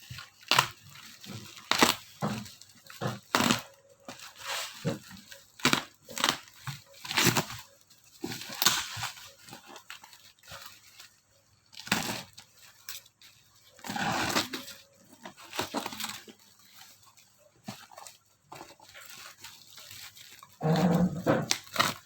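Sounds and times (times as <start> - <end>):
packaging crinkling and tearing: 0.0 - 22.0.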